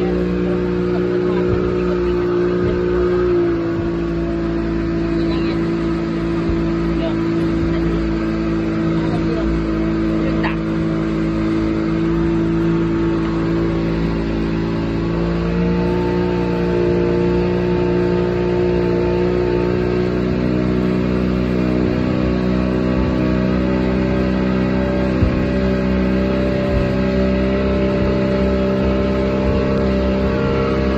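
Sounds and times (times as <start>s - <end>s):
outboard motor running at speed: 0.0s - 30.9s
steady rushing noise: 0.0s - 30.9s.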